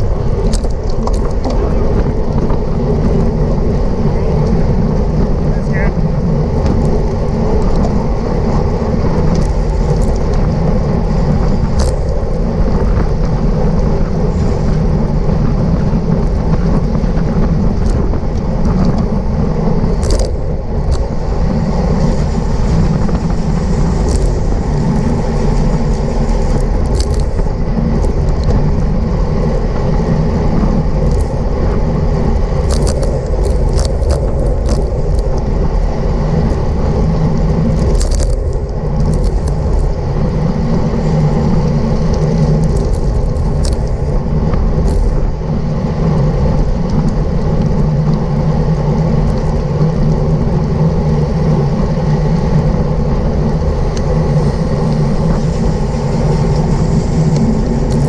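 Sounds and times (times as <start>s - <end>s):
wind and road rumble: 0.0s - 58.0s.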